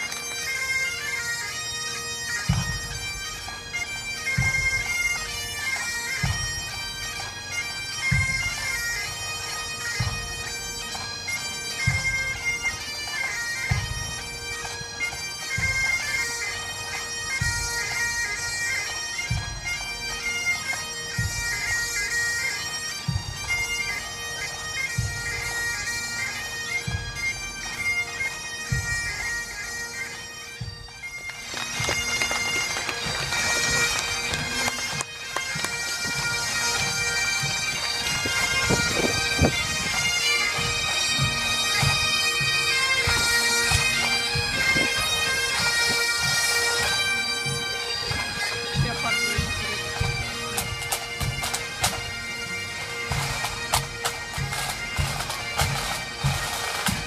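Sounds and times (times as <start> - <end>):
bagpipe band playing: 0.0 - 57.0.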